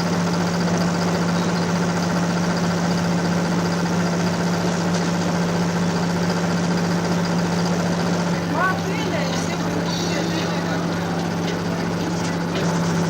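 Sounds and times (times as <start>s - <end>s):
ship diesel engine drone: 0.0s - 13.0s.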